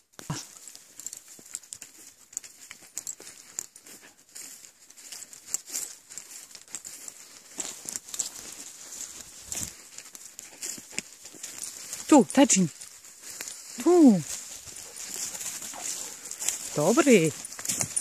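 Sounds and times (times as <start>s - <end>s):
footsteps crunching dry leaves: 0.0s - 18.0s.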